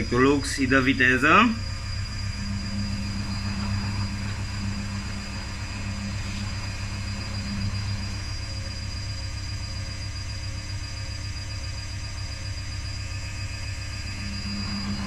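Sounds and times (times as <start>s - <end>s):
thin high whine: 0.0s - 15.0s
washing machine drum spinning: 0.0s - 15.0s.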